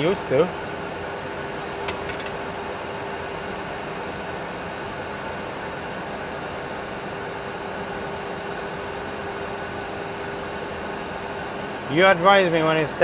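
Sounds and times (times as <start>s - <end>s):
cockpit engine and airflow rush: 0.0s - 13.0s
constant hum: 0.0s - 13.0s.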